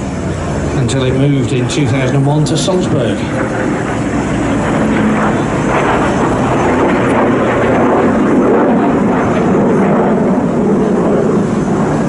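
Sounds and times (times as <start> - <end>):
aircraft engines overhead: 0.0 - 12.0.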